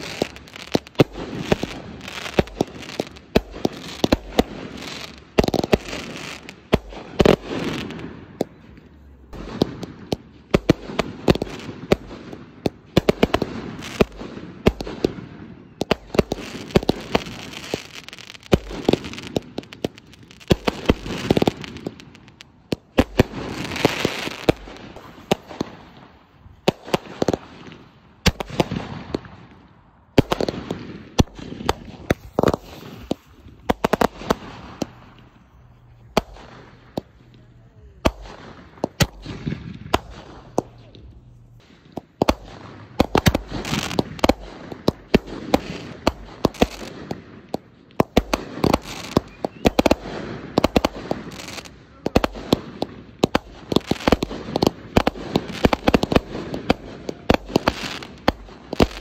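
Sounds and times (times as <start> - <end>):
fireworks bangs and pops: 0.0 - 59.0
fireworks crackling: 0.0 - 59.0.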